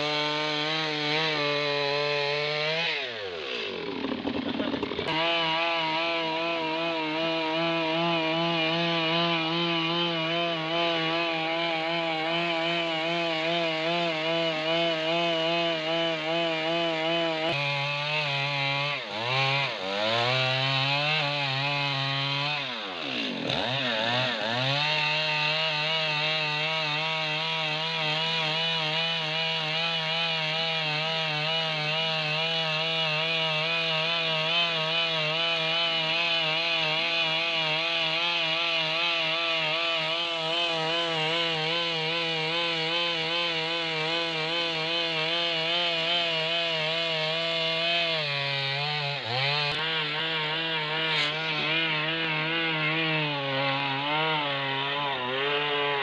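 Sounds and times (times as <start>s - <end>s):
chainsaw cutting timber: 0.0s - 56.0s.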